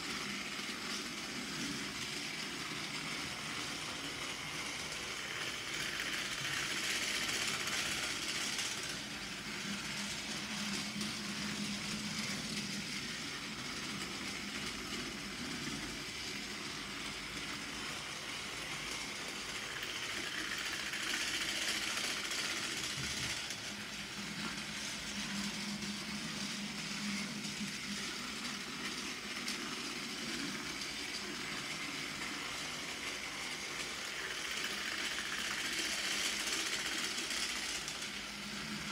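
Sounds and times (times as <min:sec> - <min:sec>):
toy train motor whirring: 0:00.0 - 0:38.9
wheels rattling on plastic track: 0:00.0 - 0:38.9.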